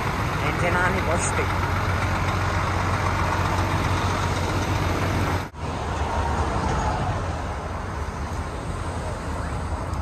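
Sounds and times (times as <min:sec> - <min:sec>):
bus engine humming: 0:00.0 - 0:10.0
road noise: 0:00.0 - 0:10.0.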